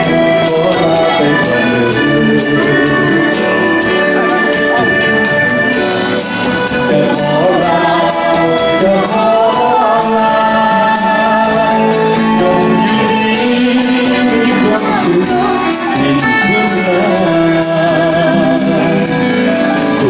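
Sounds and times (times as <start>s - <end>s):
electric guitar: 0.0s - 20.0s
live band playing dance music: 0.0s - 20.0s
person singing: 0.0s - 20.0s.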